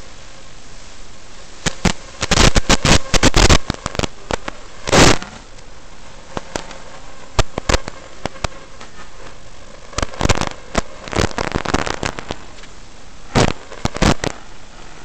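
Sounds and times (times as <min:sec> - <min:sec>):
radio crackles and pops: 0:00.0 - 0:15.0
static hiss: 0:00.0 - 0:15.0.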